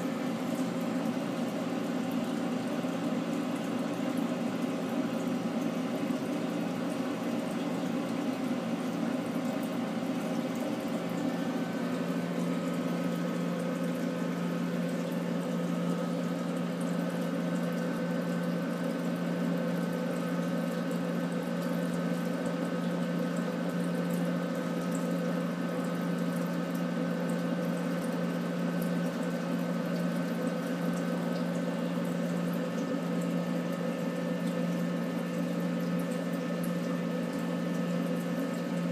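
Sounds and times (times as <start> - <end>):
water pump humming: 0.0 - 38.9.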